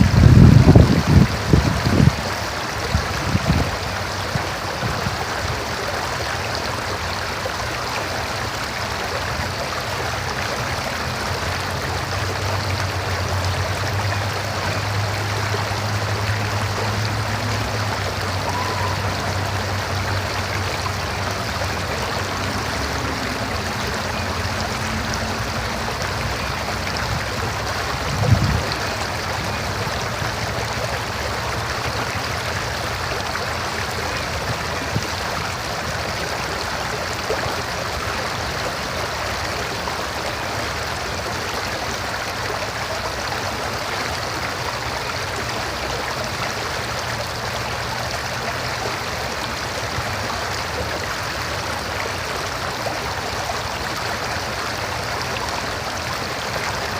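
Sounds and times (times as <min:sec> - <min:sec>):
river flowing: 0:00.0 - 0:56.9.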